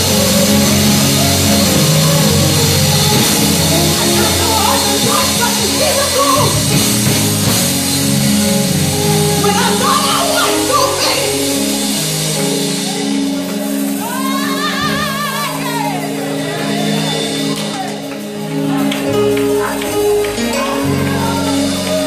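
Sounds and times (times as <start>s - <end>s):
person singing: 0.0s - 6.8s, 9.0s - 17.5s, 19.1s - 22.0s
sustained organ chords: 0.0s - 22.0s.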